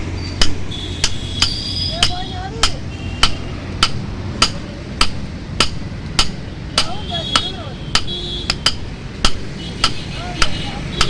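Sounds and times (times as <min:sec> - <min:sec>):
hammer striking metal on anvil: 0:00.4 - 0:11.0.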